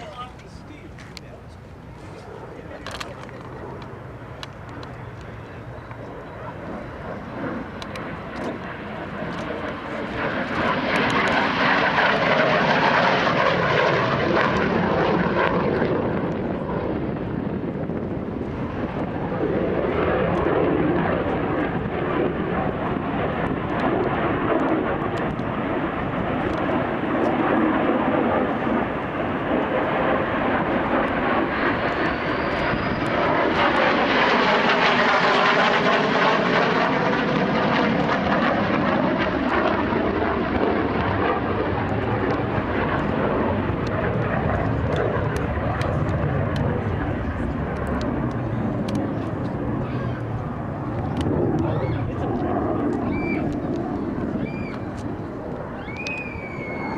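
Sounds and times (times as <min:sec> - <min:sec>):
jet engine noise: 0:00.0 - 0:56.9.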